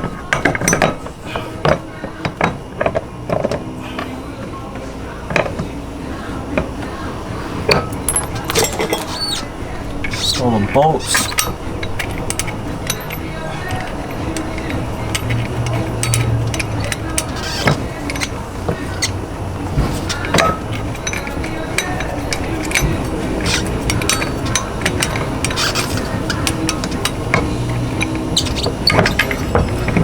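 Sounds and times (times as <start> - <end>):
metal tools clinking and scraping: 0.0 - 30.0
steady low hum: 0.0 - 30.0.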